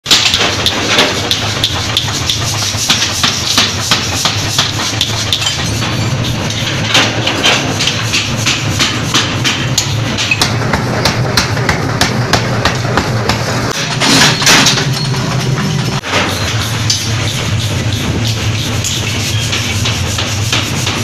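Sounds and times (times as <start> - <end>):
power hammer striking metal: 0.0 - 21.0
low machine hum: 0.4 - 21.0.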